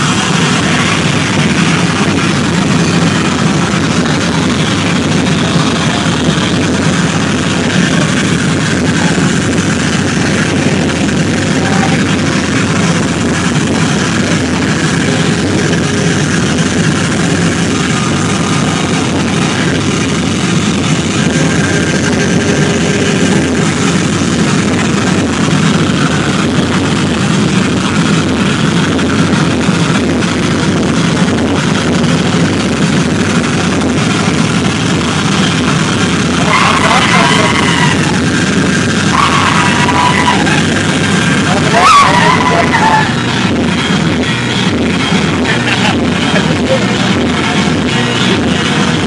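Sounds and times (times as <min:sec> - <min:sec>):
loud distorted live band music: 0:00.0 - 0:49.0.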